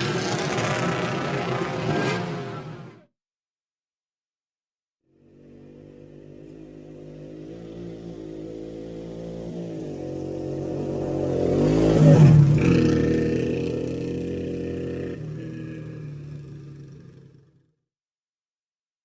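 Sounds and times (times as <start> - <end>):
motorcycle passing by: 0.0 - 3.0, 5.1 - 17.6.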